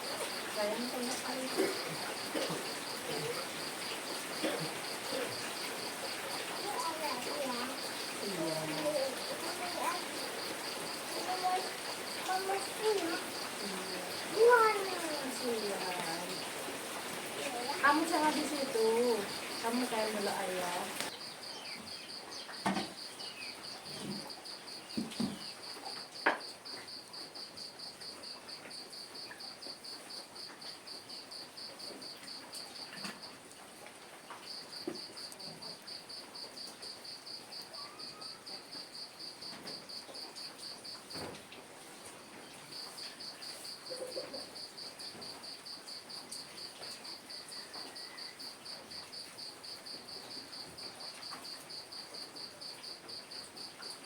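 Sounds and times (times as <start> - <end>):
cricket chirping: 0.0 - 41.4, 42.1 - 54.0.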